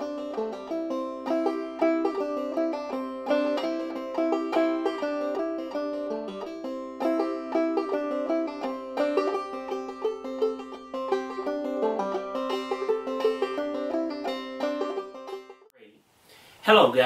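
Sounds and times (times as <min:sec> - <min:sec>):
plucked-string instrumental music: 0:00.0 - 0:15.7.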